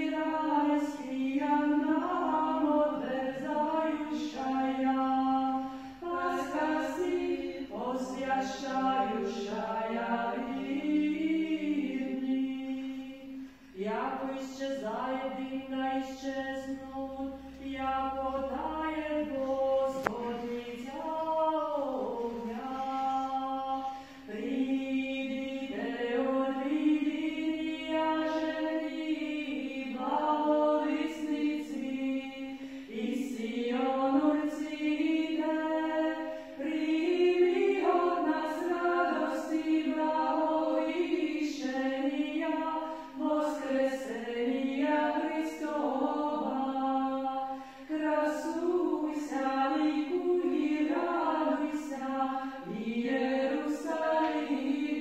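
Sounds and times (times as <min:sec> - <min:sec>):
group chanting a hymn: 0:00.0 - 0:55.0.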